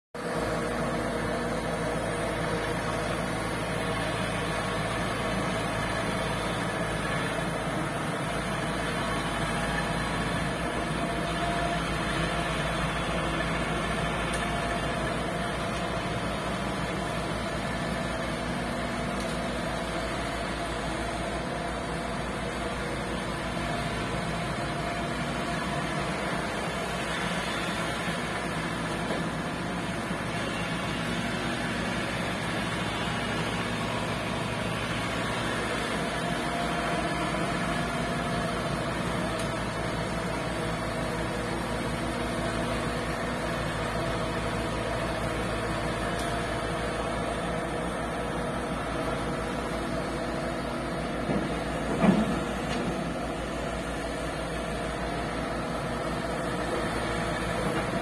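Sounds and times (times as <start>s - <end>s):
heavy engine running: 0.2s - 58.0s.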